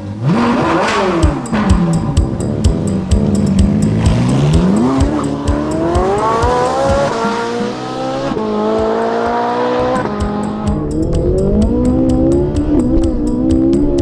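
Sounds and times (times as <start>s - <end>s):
car engine revving: 0.0s - 14.0s
background music with beat: 0.6s - 14.0s.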